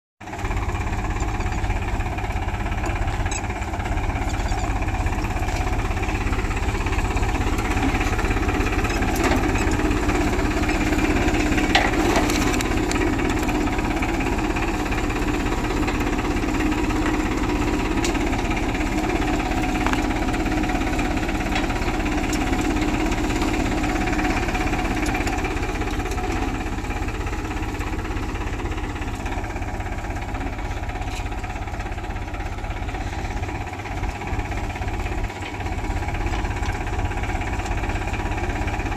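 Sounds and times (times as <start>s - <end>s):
tractor diesel engine under load: 0.2s - 38.9s.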